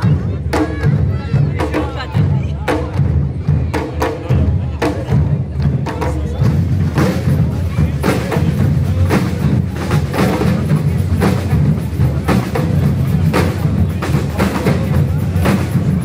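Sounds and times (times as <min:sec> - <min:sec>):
percussion band drumming: 0:00.0 - 0:16.0.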